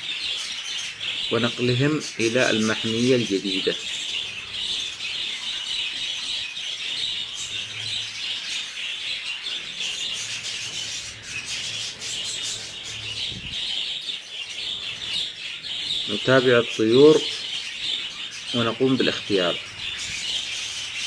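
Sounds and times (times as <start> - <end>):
budgerigars chattering: 0.0 - 21.0.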